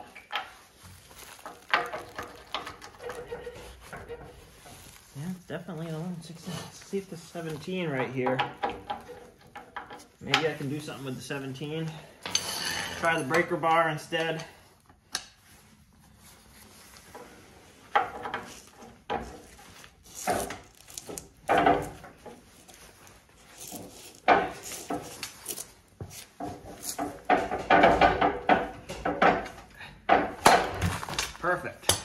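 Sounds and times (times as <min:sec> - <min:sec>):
metal creaks scrapes and clanks: 0:00.0 - 0:14.5, 0:15.3 - 0:32.0.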